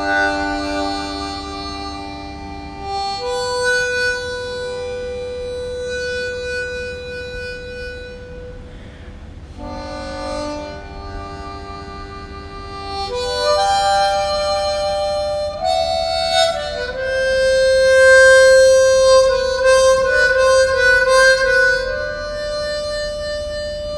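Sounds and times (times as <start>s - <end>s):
slow harmonica melody: 0.0s - 23.9s.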